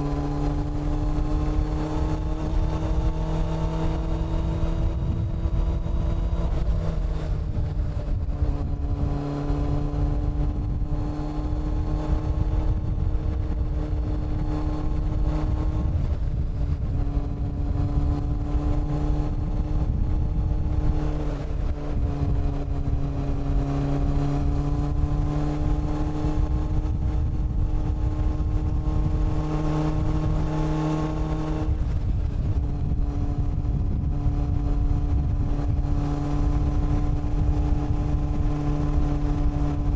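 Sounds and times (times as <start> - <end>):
low wind rumble: 0.0 - 39.9
motorcycle engine riding: 0.0 - 39.9.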